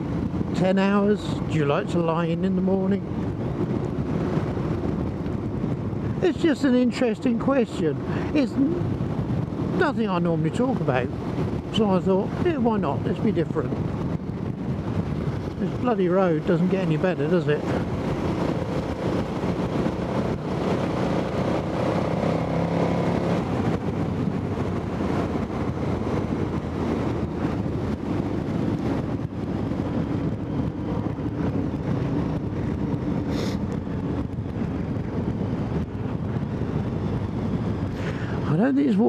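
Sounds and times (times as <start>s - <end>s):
motorcycle engine riding: 0.0s - 39.0s
wind rush on microphone: 0.0s - 39.0s.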